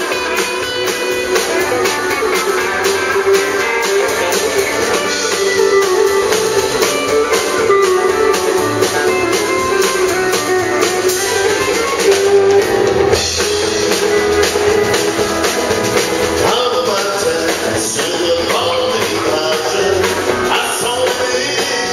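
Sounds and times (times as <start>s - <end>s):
acoustic and electric guitars: 0.0s - 21.9s
drum kit beat: 0.0s - 21.9s.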